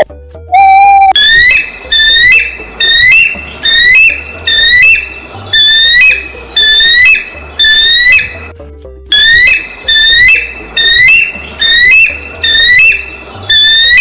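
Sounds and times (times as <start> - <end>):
bird calling loudly: 0.8 - 8.4, 9.1 - 14.0.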